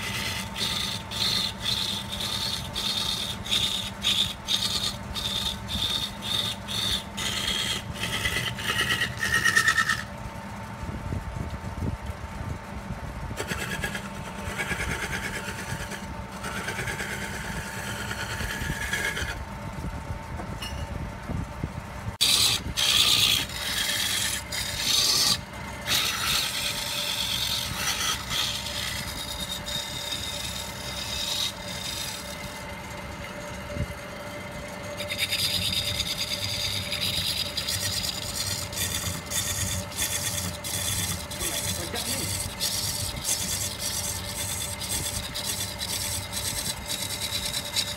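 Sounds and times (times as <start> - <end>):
gouge scraping spinning wood: 0.0 - 10.6, 13.4 - 19.6, 22.1 - 47.9
lathe motor humming: 0.0 - 10.7, 13.2 - 20.3, 22.1 - 47.9.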